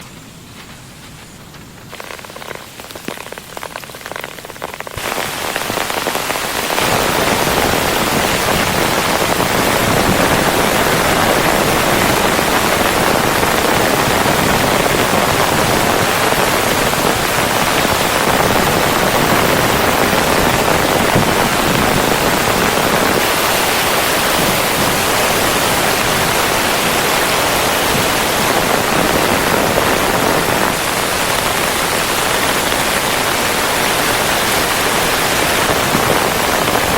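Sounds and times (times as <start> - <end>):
rain downpour: 0.0 - 36.9.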